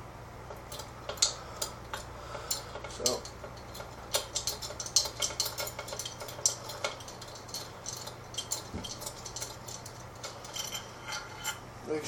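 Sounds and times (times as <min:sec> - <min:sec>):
metal tools clicking and clinking: 0:00.5 - 0:11.6.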